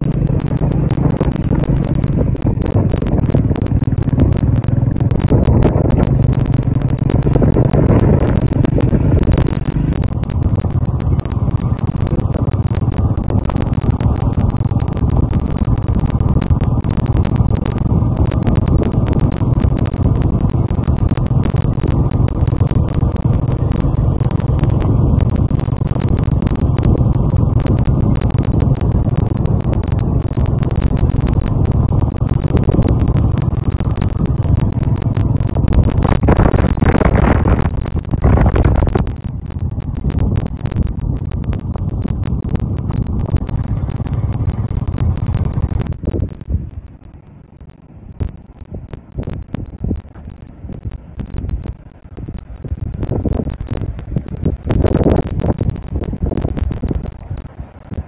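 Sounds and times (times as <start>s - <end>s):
wind buffeting microphone: 0.0s - 47.2s, 48.1s - 58.0s
motorcycle engine running: 0.0s - 58.0s.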